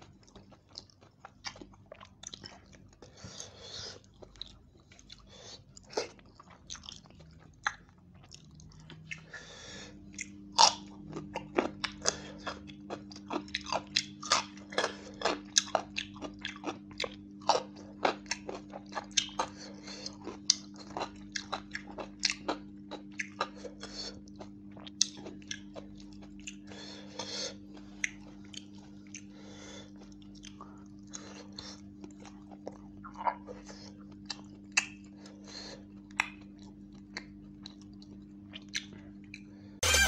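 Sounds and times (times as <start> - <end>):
chewing and biting food: 0.0 - 39.7
steady low hum: 0.0 - 40.0.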